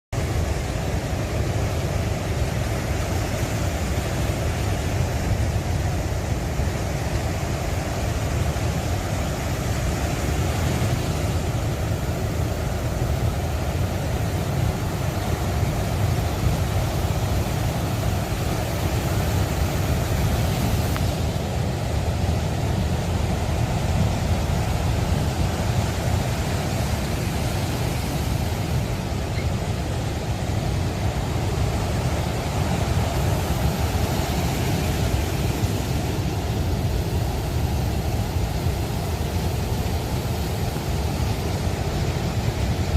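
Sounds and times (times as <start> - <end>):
wind and sea rushing: 0.1 - 42.9.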